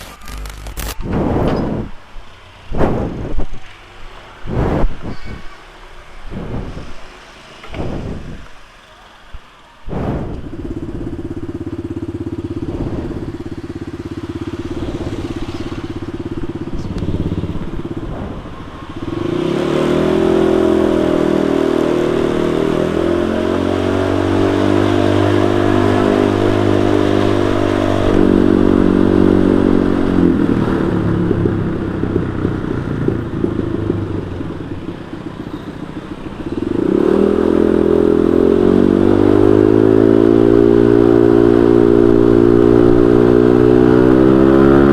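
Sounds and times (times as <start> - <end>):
scooter engine running: 0.0 - 44.9.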